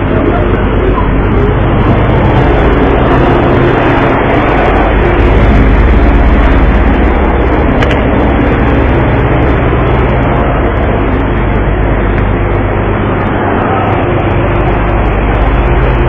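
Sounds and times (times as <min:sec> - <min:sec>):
engine running: 0:00.0 - 0:16.0
loud rushing noise: 0:00.0 - 0:16.0.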